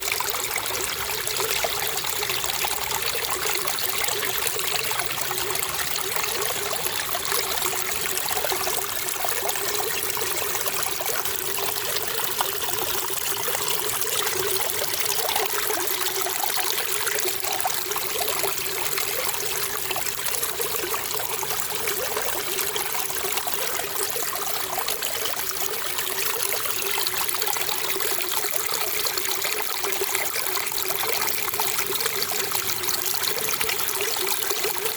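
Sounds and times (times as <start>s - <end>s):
running water trickling: 0.0s - 34.9s.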